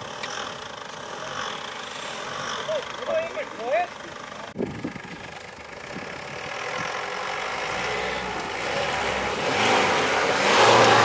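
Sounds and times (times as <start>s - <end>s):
diesel engine running low speed: 0.0s - 11.0s.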